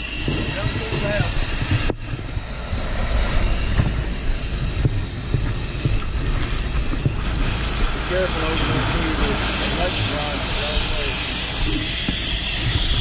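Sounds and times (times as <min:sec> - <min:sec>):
faint high whine: 0:00.0 - 0:13.0
fire engine rumbling: 0:00.0 - 0:13.0.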